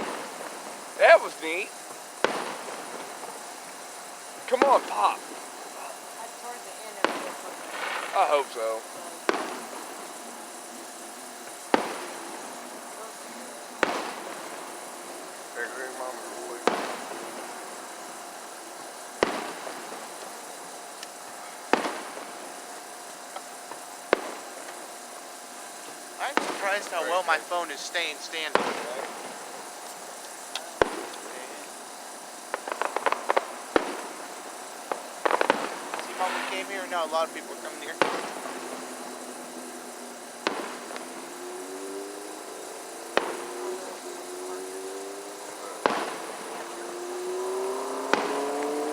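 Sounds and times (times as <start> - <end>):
faint firework pops: 0.0 - 48.9
firework bangs: 0.0 - 48.9.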